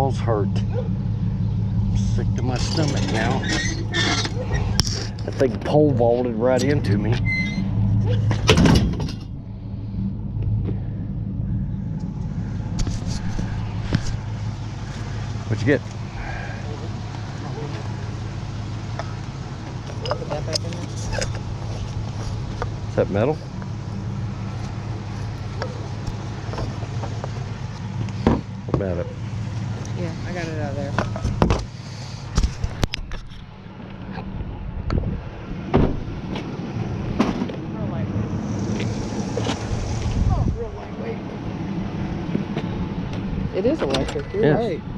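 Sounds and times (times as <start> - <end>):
vehicle engine rumbling: 0.0 - 44.9.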